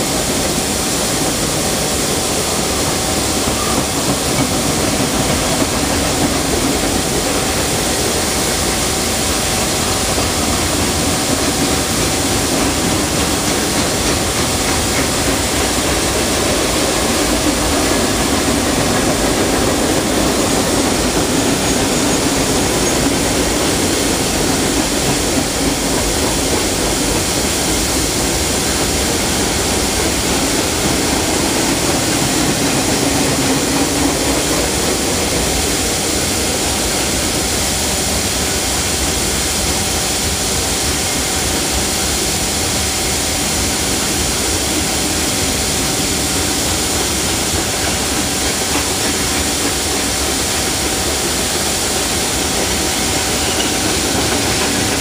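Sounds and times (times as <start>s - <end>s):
train wheels on track: 0.0s - 55.0s.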